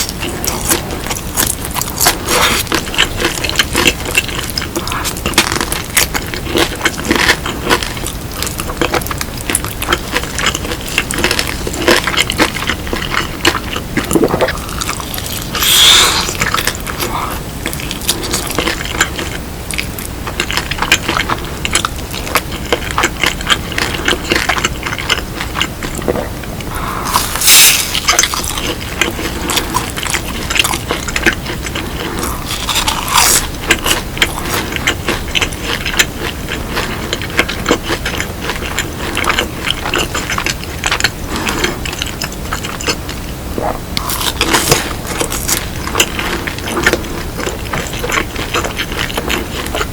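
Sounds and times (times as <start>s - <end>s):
chewing and crunching crispy food: 0.0s - 49.9s.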